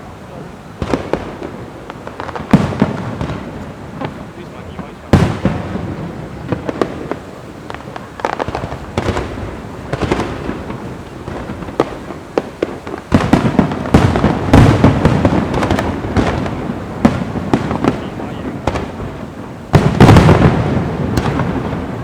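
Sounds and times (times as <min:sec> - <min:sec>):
deep fireworks booms: 0:00.0 - 0:22.0
fireworks bangs and crackles: 0:00.0 - 0:22.0.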